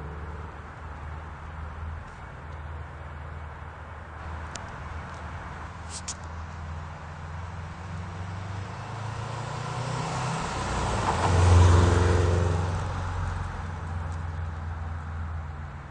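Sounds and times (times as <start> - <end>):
car engine and exhaust running: 0.0 - 15.9.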